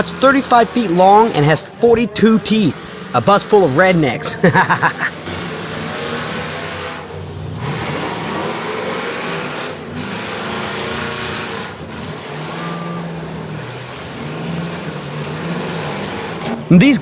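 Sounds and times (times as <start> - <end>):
bus engines revving: 0.0 - 17.0.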